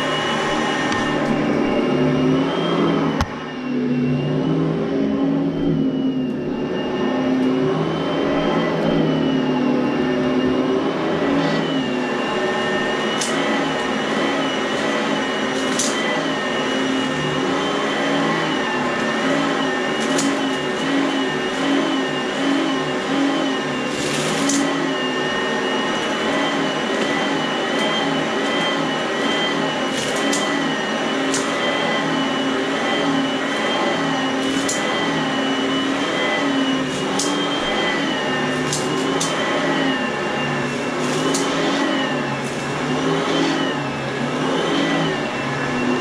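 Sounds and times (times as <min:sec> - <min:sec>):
vacuum cleaner motor whine: 0:00.0 - 0:46.0.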